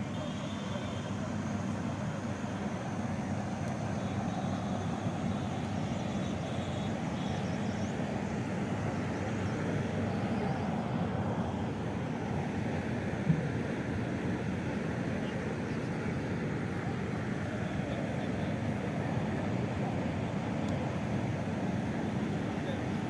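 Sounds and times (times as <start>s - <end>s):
low rumbling background noise: 0.0s - 23.0s.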